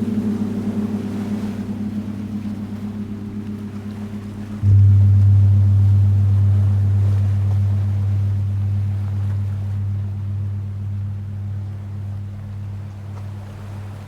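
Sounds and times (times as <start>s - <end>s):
ocean waves: 0.0s - 14.0s
singing bowl ringing: 0.0s - 14.0s.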